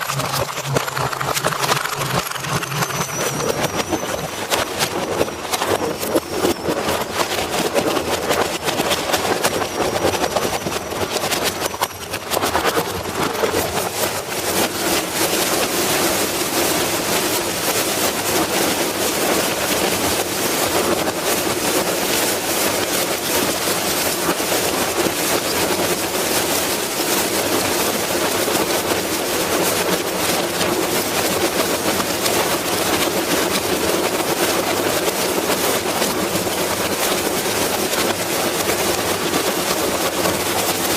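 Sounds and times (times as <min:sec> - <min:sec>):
machine rattling: 0:00.0 - 0:40.9.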